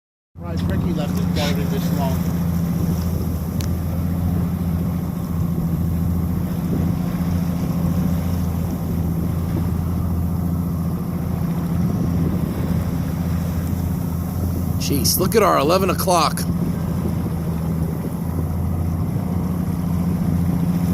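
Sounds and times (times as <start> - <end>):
steady engine drone: 0.4 - 20.9.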